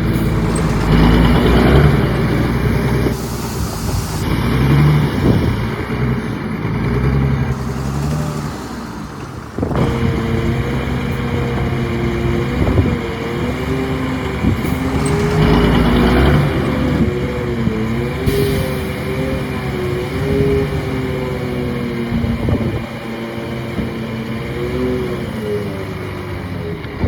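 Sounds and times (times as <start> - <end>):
heavy diesel engines under load: 0.0 - 27.0.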